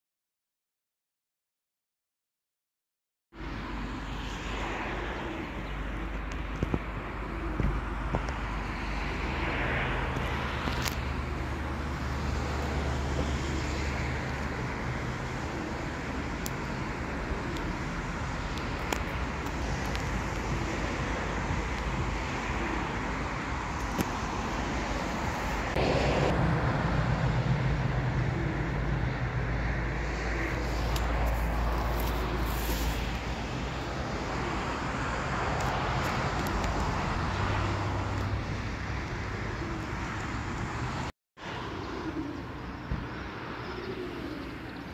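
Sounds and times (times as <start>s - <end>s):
outdoor rushing noise: 3.4s - 44.8s
wind turbines low rumble: 3.4s - 44.9s.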